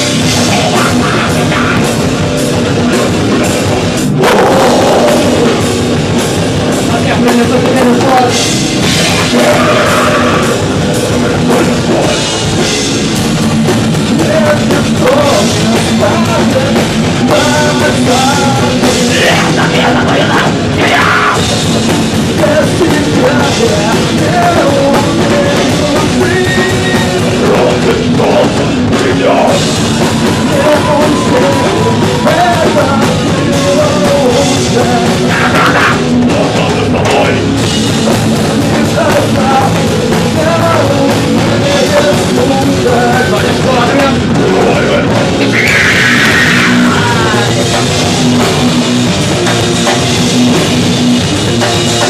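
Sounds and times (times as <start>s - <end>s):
heavy rock band playing loudly: 0.0s - 52.0s.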